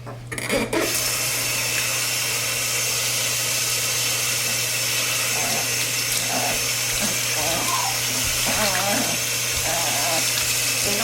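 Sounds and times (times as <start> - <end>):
water running from tap: 0.7 - 11.0.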